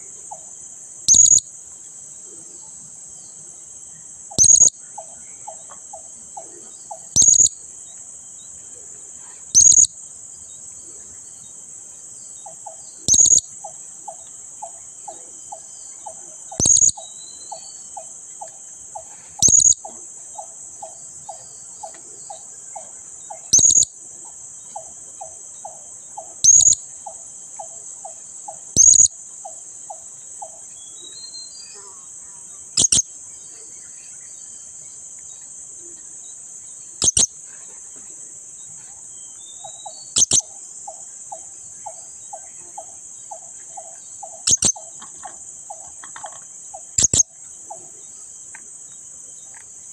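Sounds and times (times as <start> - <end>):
steady high insect buzz: 0.0 - 49.9.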